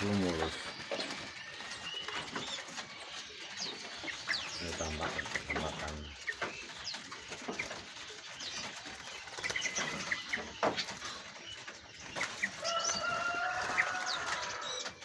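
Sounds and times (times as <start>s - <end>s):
songbirds chirping and whistling: 0.0s - 15.0s.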